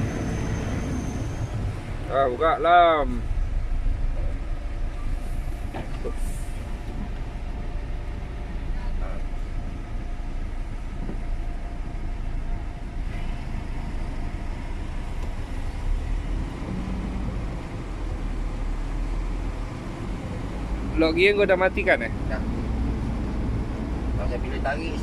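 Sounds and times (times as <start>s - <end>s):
truck diesel engine rumbling: 0.0s - 25.0s.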